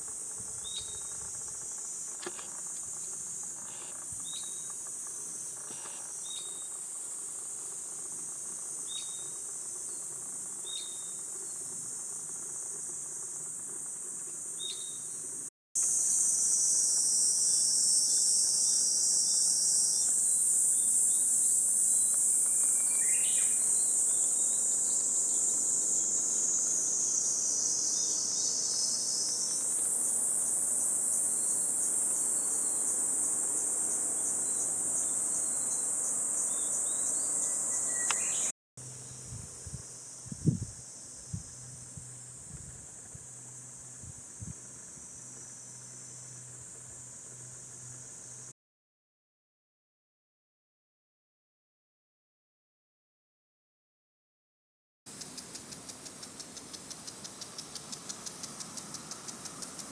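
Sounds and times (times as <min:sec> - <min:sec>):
cicadas buzzing: 0:00.0 - 0:48.5, 0:55.1 - 0:59.9.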